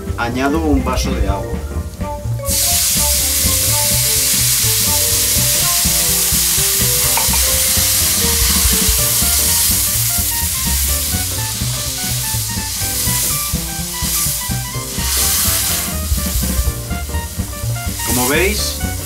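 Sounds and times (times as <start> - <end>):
hot oil sizzling and spattering: 2.5 - 19.0.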